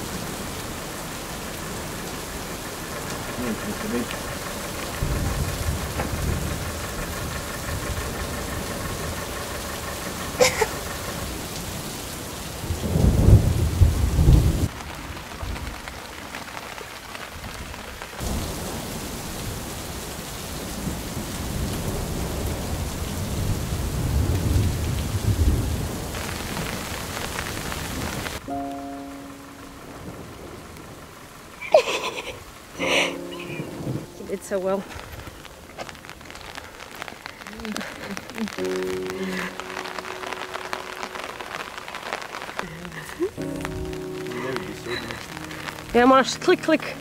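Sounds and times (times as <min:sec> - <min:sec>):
thunder rumbling: 0:00.0 - 0:16.3, 0:17.3 - 0:47.0
rain pattering on creek water: 0:00.0 - 0:47.0.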